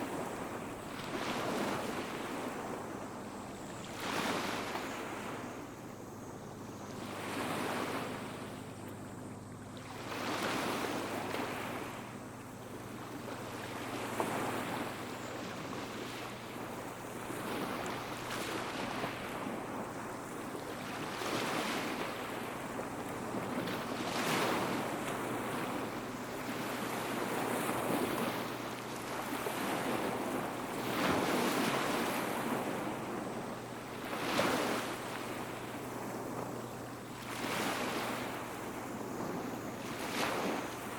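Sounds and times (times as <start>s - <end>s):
small waves washing up beach: 0.0s - 40.9s.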